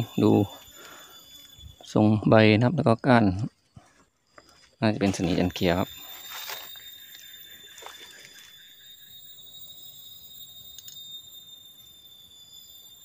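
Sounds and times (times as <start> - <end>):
forest insects shrilling: 0.0 - 13.0.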